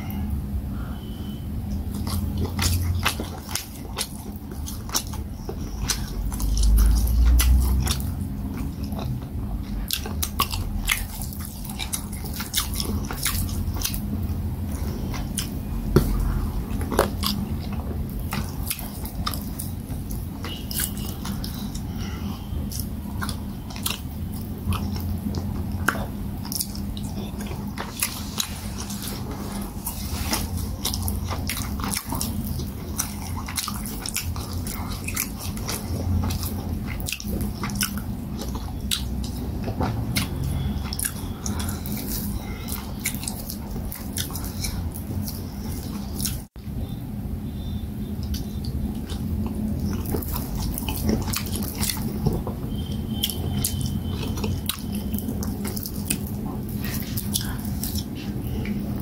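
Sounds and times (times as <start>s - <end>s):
chewing food: 1.6s - 46.6s, 48.1s - 59.0s.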